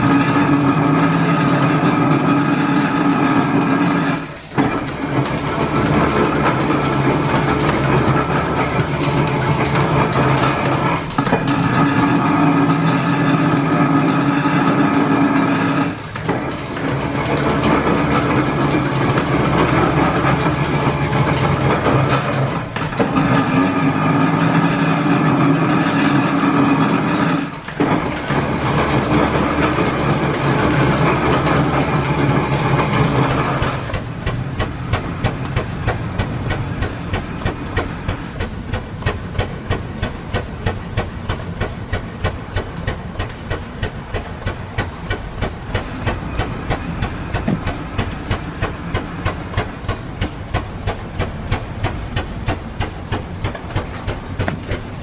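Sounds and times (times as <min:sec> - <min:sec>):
metal planer cutting: 0:00.0 - 0:55.0
steam engine exhaust chuffing: 0:00.0 - 0:55.0.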